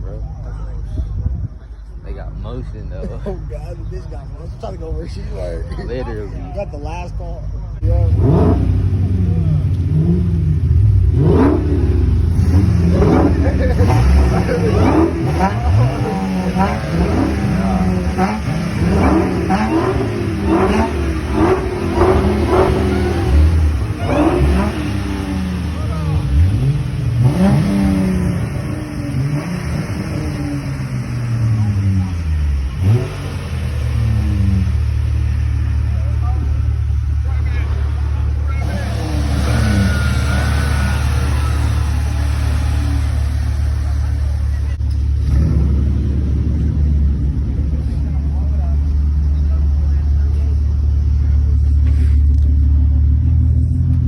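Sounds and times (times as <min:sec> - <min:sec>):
car engines revving: 0:00.0 - 0:54.0
steady engine drone: 0:00.0 - 0:54.0.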